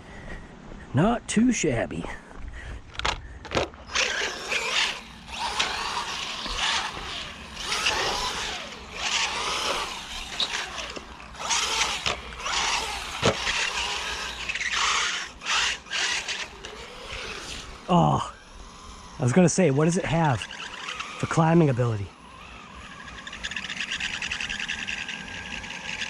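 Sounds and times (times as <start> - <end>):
electric motor whining: 3.5 - 26.0.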